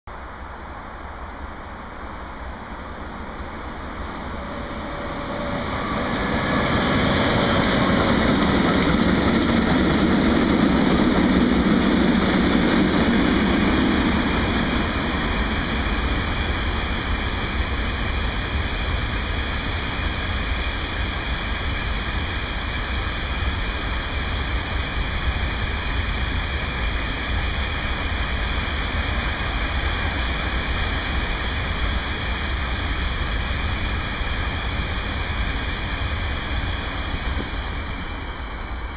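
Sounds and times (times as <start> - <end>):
diesel locomotive engine: 0.1 - 38.9
train wagons rolling on rails: 2.5 - 38.9.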